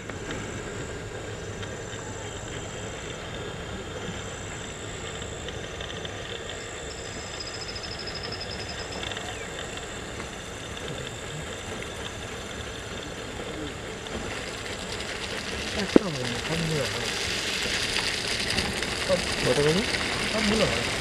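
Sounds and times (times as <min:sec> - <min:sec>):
jeep engines driving slowly: 0:00.0 - 0:21.0
insects buzzing: 0:00.6 - 0:21.0.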